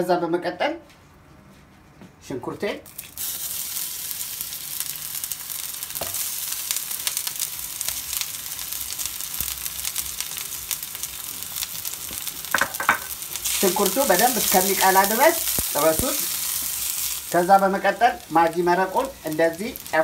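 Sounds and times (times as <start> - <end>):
onions sizzling in oil: 2.9 - 20.0.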